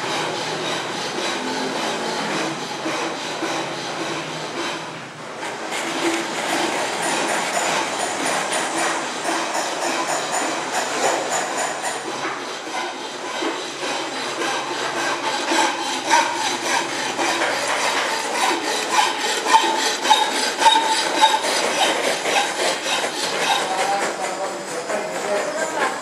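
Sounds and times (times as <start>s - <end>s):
hand file rasping on metal: 0.0s - 26.0s.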